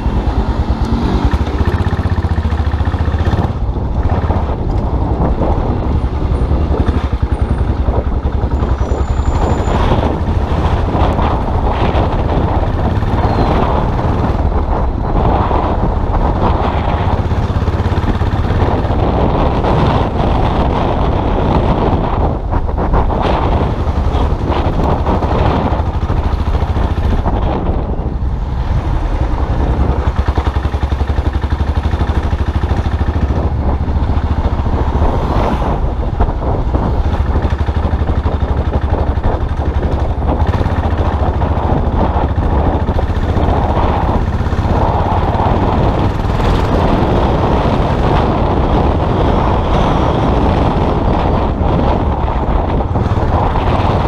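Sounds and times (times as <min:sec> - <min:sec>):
motorcycle engine throbbing: 0:00.0 - 0:54.0
road and wind noise: 0:00.0 - 0:54.0.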